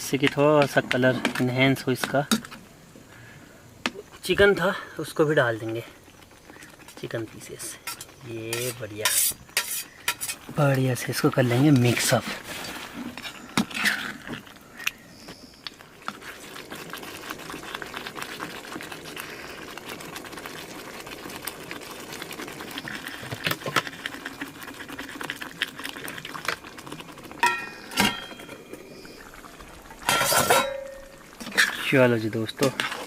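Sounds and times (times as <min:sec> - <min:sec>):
gravy bubbling and sizzling in a pan: 0:00.0 - 0:33.0.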